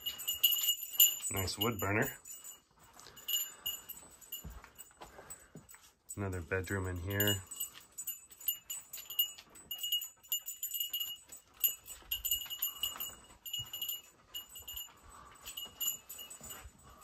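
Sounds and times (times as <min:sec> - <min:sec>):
dog tags jingling: 0:00.0 - 0:17.0.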